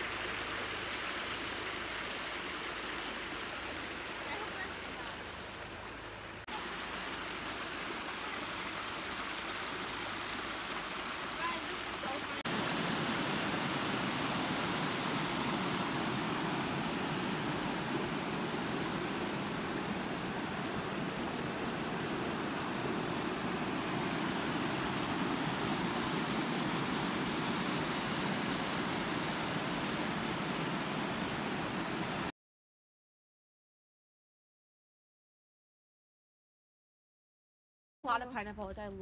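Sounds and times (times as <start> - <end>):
water rushing over rock: 0.0 - 32.3.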